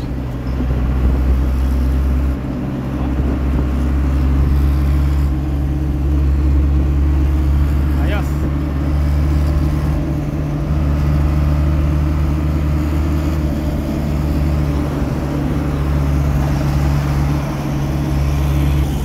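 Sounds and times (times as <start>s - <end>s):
vehicle engine and road drone: 0.0s - 19.0s.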